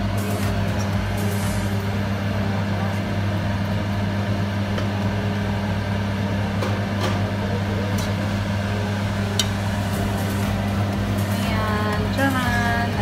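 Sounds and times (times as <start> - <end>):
appliance motor humming: 0.0 - 13.0.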